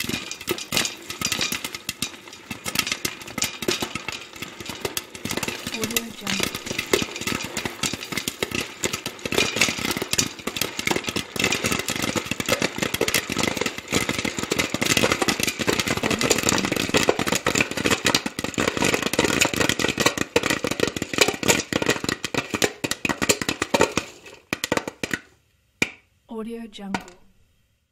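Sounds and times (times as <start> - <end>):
popcorn popping: 0.0 - 26.1, 26.8 - 27.4.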